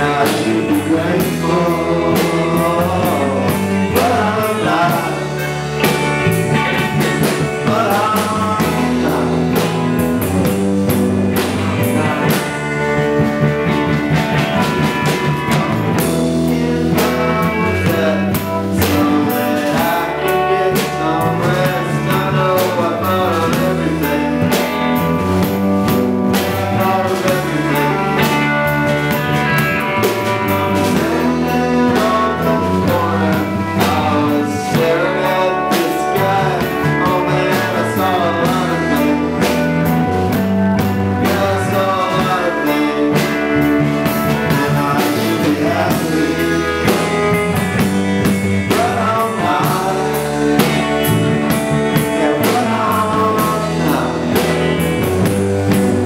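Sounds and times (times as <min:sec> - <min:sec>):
electric guitar: 0:00.0 - 0:56.0
rock band playing: 0:00.0 - 0:56.0.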